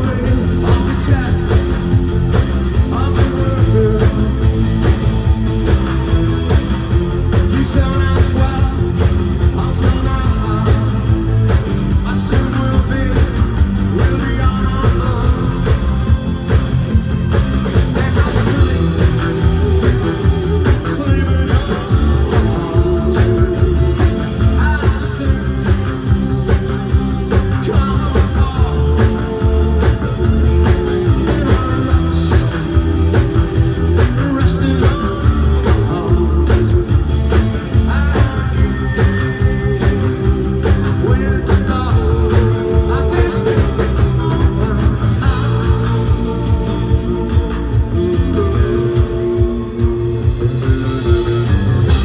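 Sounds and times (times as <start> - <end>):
rock band playing live: 0.0 - 52.0
vocals: 0.0 - 52.0.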